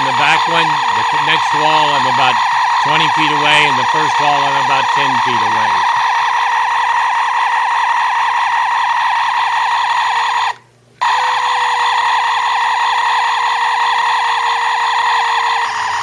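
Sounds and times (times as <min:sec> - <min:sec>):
electronic siren-like firing whine: 0:00.0 - 0:16.0.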